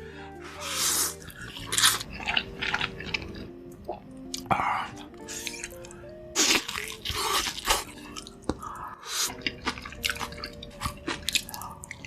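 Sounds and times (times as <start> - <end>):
slurping: 0.4 - 3.4, 4.3 - 12.0.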